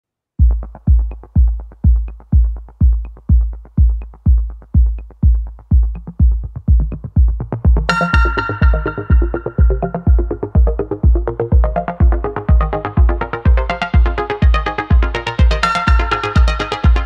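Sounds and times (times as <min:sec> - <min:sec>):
electronic dance music: 0:00.4 - 0:17.0
fast ticking hi-hats: 0:00.4 - 0:17.0
heavy kick drum: 0:00.4 - 0:17.0.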